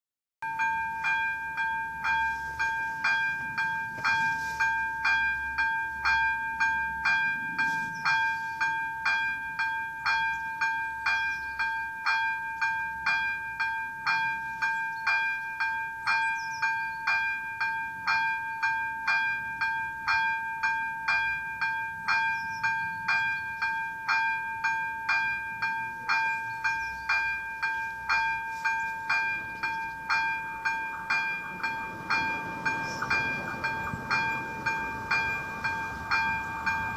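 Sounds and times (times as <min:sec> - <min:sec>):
level-crossing warning bell: 0:00.4 - 0:36.9.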